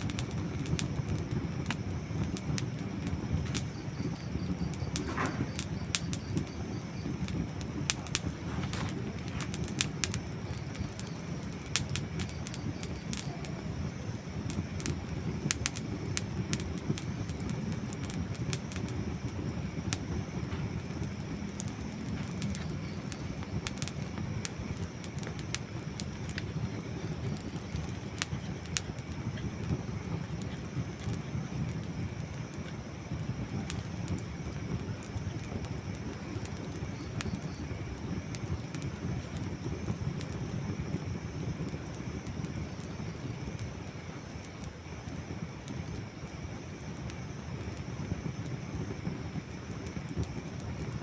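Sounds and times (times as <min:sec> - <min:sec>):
burning wood crackling: 0:00.0 - 0:51.0.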